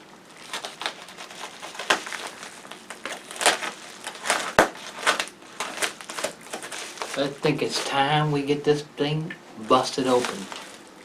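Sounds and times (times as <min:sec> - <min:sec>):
plastic bag crinkling: 0:00.0 - 0:08.4, 0:09.6 - 0:11.0.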